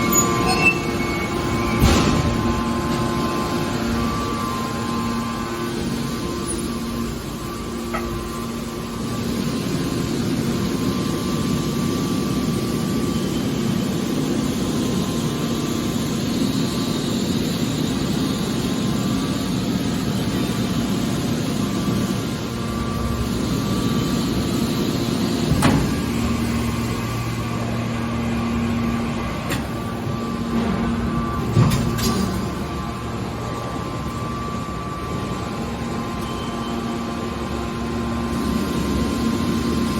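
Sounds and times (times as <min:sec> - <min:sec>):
baler machine hum: 0:00.0 - 0:39.9.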